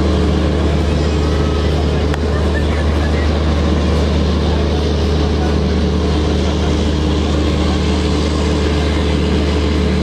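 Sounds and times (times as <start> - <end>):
continuous rumbling noise: 0.0 - 10.0
diesel train engine drone: 0.0 - 10.0.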